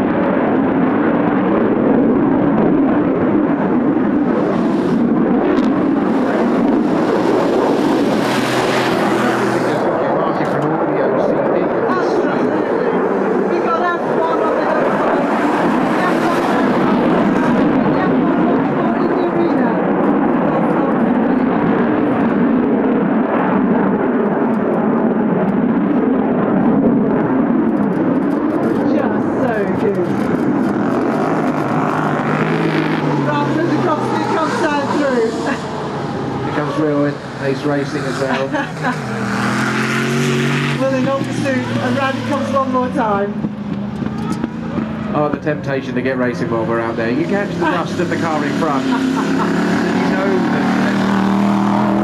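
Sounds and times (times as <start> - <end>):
jet engines roaring in flight: 0.0 - 52.0.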